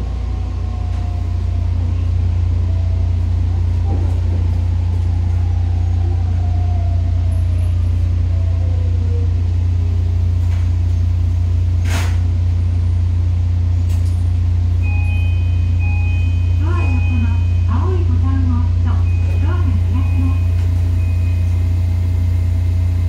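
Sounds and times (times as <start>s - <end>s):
train running drone and rumble: 0.0s - 23.0s.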